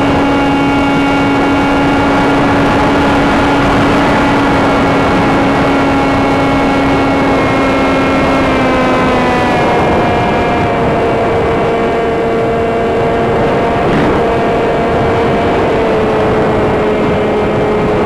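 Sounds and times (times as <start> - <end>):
electric motor and propeller whining: 0.0 - 18.0
loud wind rush: 0.0 - 18.0.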